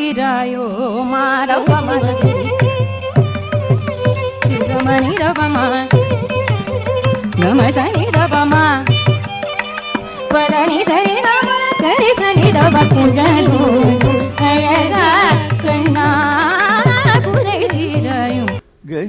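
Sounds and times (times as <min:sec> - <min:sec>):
drum strokes: 0:01.7 - 0:18.6.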